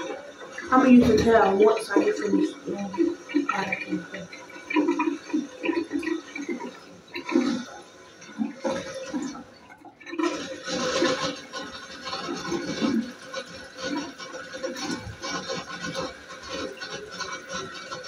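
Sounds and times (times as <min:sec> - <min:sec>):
tap water splashing in sink: 0:00.0 - 0:18.0.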